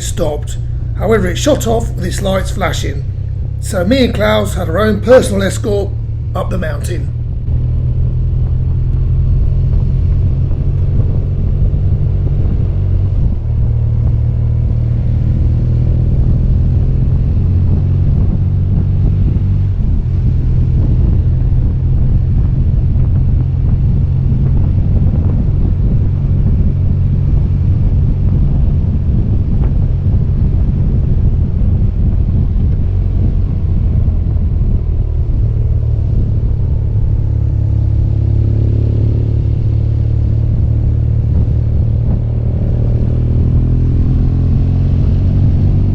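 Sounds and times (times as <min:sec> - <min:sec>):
motorcycle engine drone: 0:00.0 - 0:45.9
wind rush: 0:00.0 - 0:45.9.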